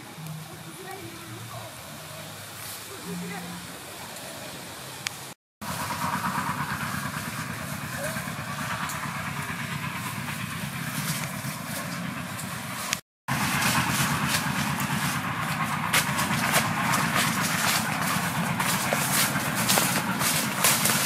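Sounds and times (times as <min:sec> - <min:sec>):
dry leaves rustling and crackling: 0:00.0 - 0:05.0, 0:07.5 - 0:21.0
steady outdoor hiss: 0:00.0 - 0:21.0.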